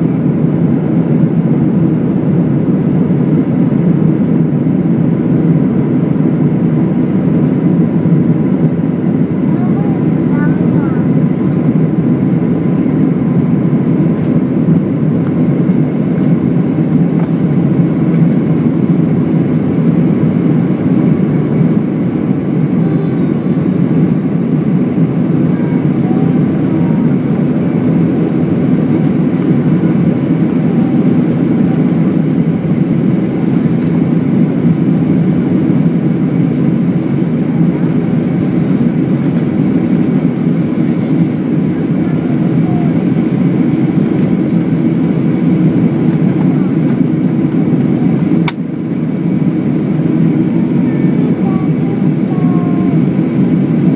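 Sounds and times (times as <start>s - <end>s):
jet engine and airflow roar: 0.0s - 53.9s.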